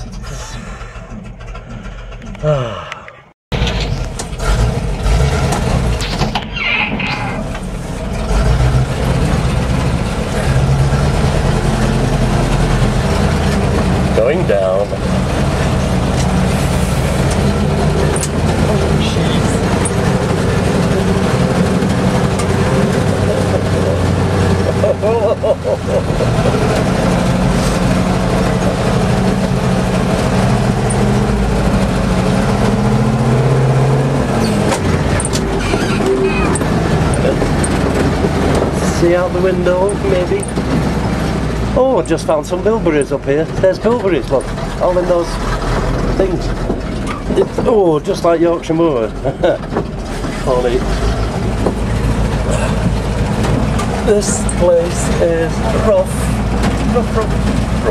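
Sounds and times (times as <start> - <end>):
truck driving over bumpy track: 0.0 - 57.9
truck engine running: 0.0 - 57.9.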